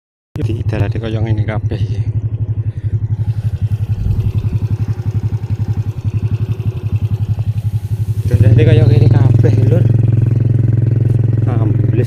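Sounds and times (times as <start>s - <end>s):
motorcycle engine running: 0.4s - 12.0s.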